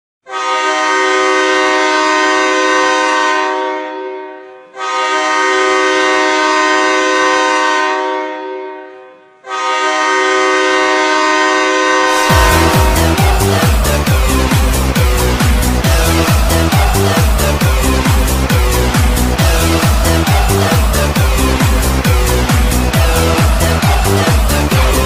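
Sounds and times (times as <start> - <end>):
deep multi-tone air horn blasts: 0.3 - 25.0.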